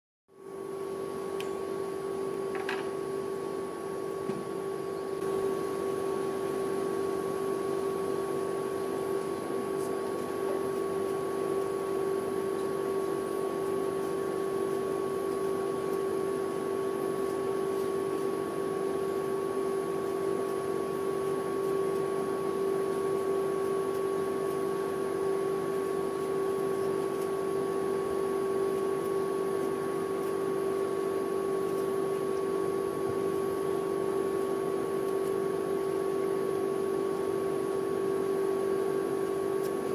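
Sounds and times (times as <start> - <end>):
refrigeration compressor humming: 0.3 - 39.9.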